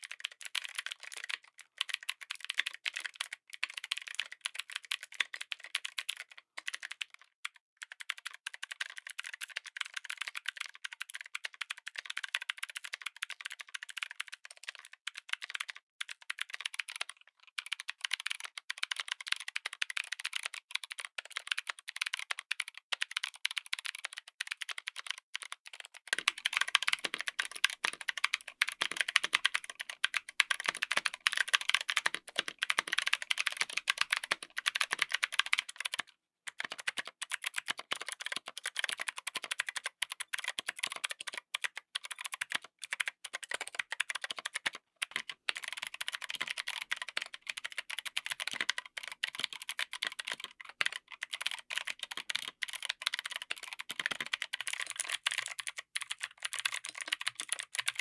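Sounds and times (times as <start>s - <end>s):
mechanical keyboard typing: 0.0s - 7.2s, 7.8s - 58.0s.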